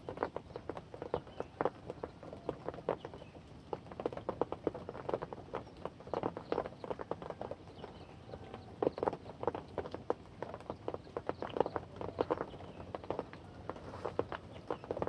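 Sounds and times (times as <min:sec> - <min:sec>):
faint steady rain hiss: 0:00.0 - 0:15.0
heavy raindrops tapping: 0:00.0 - 0:15.0.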